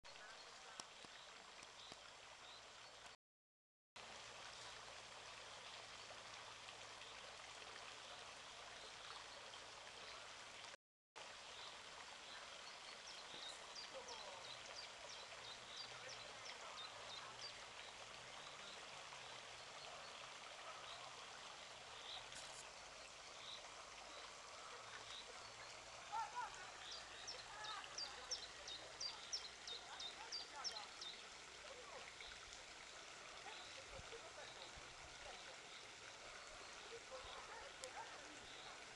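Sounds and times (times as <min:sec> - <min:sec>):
river water flowing: 0:00.1 - 0:03.2, 0:04.0 - 0:38.9.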